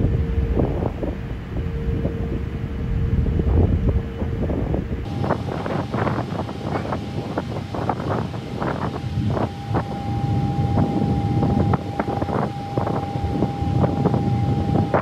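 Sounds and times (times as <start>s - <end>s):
thin steady whine: 0.0s - 15.0s
wind buffeting microphone: 0.0s - 15.0s.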